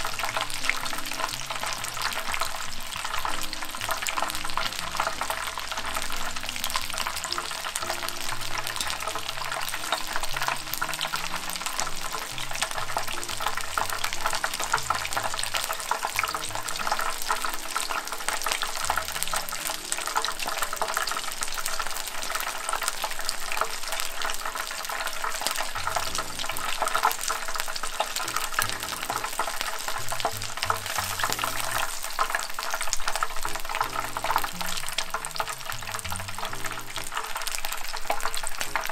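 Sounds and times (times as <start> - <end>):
batter sizzling in hot oil: 0.0 - 38.9.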